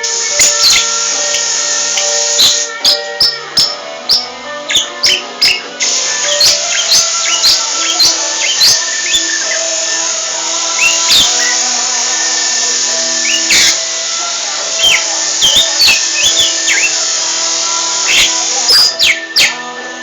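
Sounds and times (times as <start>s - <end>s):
lovebird chirping and whistling: 0.0s - 19.7s
steady held tones: 0.0s - 20.0s.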